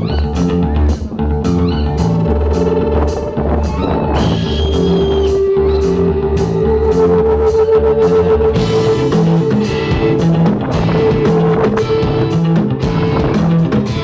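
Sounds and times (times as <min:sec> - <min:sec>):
rock band playing: 0:00.0 - 0:14.0
drum and cymbal hits: 0:00.4 - 0:14.0.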